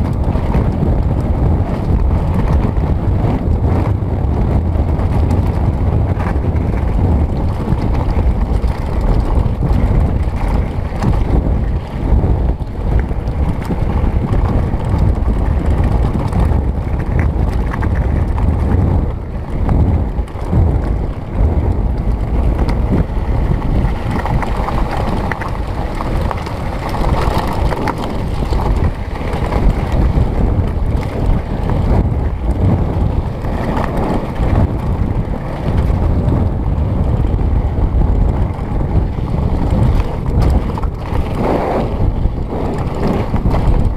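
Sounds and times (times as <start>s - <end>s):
bike knocks and rattles: 0.0s - 43.9s
tyres rumbling on gravel: 0.0s - 43.9s
wind buffeting microphone: 0.0s - 43.9s.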